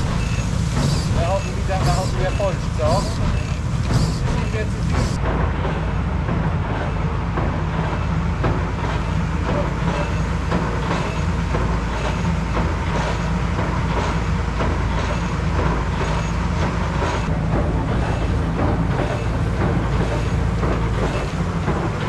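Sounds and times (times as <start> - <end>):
rattles and knocks: 0.0 - 22.0
tractor engine running: 0.0 - 22.0.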